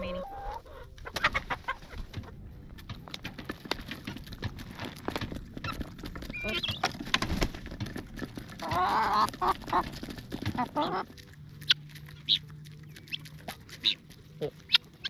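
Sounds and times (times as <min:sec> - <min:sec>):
chickens pecking beak taps: 0:00.4 - 0:15.0.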